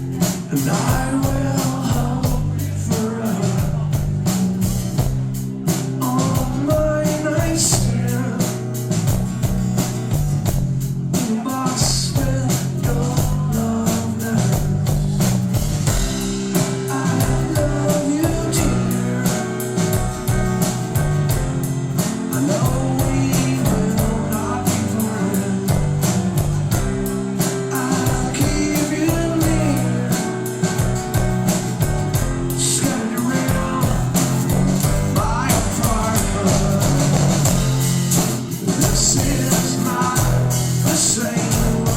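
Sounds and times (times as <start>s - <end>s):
person singing: 0.0s - 4.2s, 5.9s - 8.8s, 11.1s - 21.0s, 22.0s - 41.9s
rock band playing: 0.0s - 41.9s.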